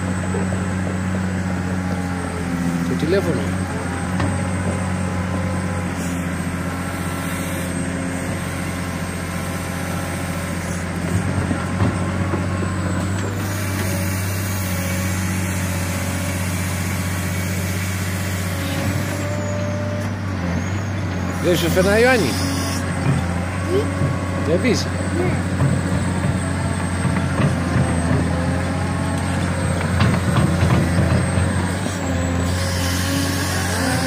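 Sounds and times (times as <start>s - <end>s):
excavator diesel engine drone: 0.0s - 34.0s.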